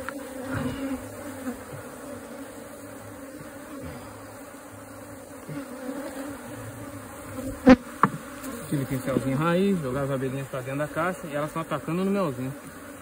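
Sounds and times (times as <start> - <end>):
honeybee colony buzzing: 0.0 - 13.0.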